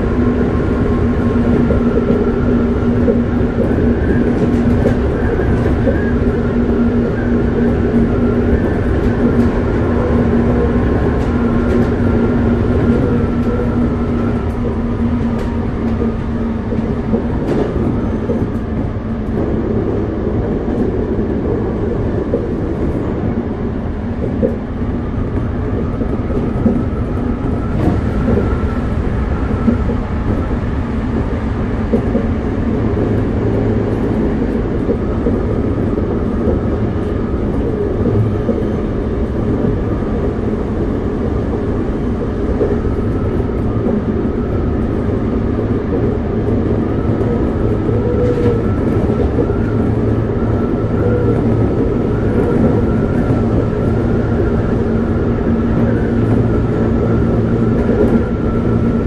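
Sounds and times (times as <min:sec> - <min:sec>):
subway car wheels rumbling: 0:00.0 - 0:59.0.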